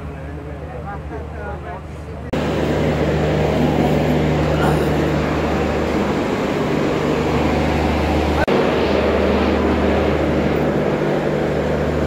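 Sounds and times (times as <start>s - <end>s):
train machine drone: 0.0s - 12.0s.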